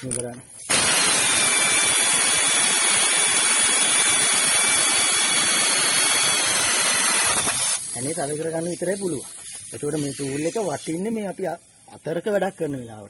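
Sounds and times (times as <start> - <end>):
air ratchet running: 0.0 - 11.0.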